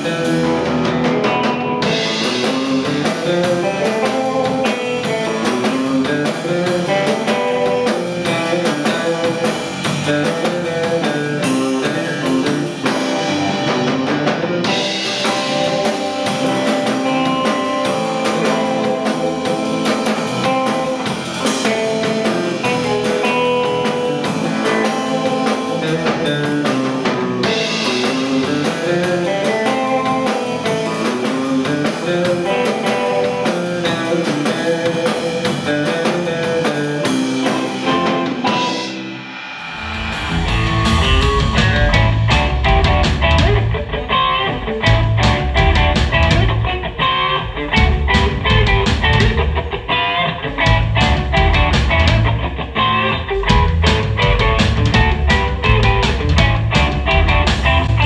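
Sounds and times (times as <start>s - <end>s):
drum kit beat on cymbals: 0.0s - 58.0s
electric bass: 0.0s - 58.0s
reverb-heavy electric guitar: 0.0s - 58.0s.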